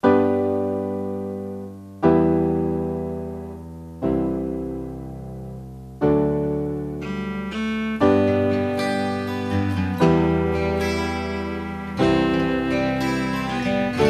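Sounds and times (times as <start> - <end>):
slow keyboard chords: 0.0 - 14.0.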